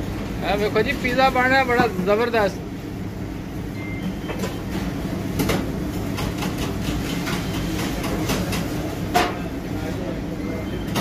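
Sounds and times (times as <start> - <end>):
machine hum and rumble: 0.0 - 11.0.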